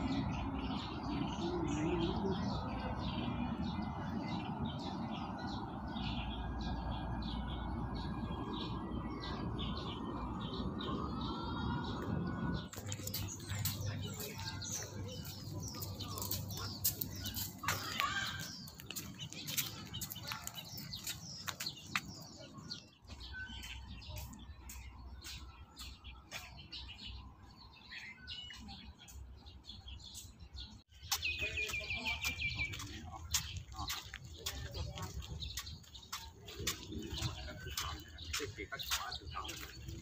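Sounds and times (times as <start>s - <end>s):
birds chirping chorus: 0.0s - 40.0s.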